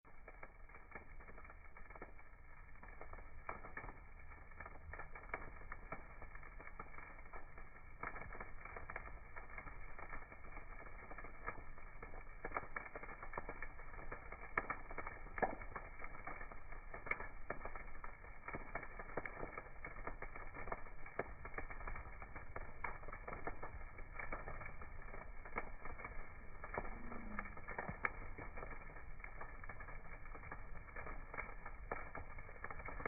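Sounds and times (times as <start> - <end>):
wood crackling and popping: 0.0 - 33.0
low hiss of flames: 0.1 - 33.0.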